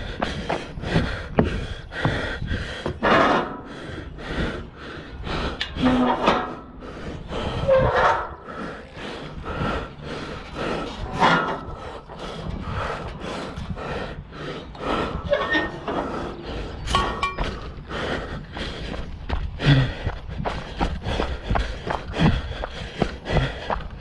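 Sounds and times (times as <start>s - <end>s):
person breathing hard: 0.0s - 24.0s.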